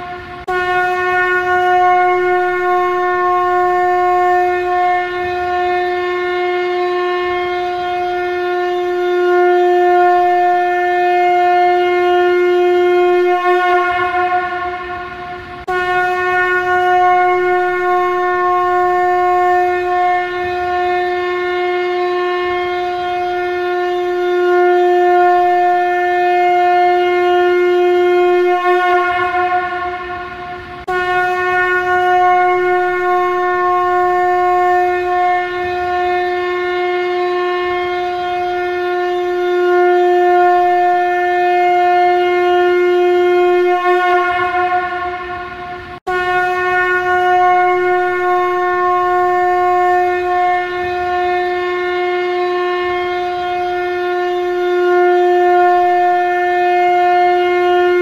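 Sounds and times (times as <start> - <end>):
conch shell blasts: 0.0 - 58.0.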